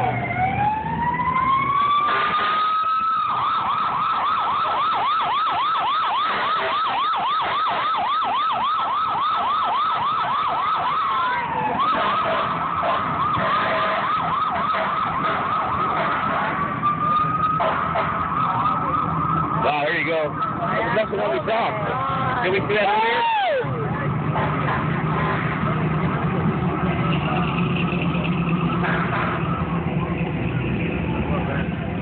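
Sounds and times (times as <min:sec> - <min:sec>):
fire engine siren: 0:00.0 - 0:32.0.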